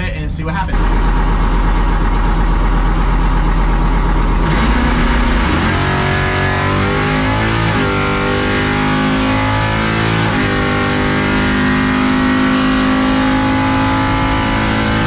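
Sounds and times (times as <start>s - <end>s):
truck engine running loud: 0.0s - 15.0s.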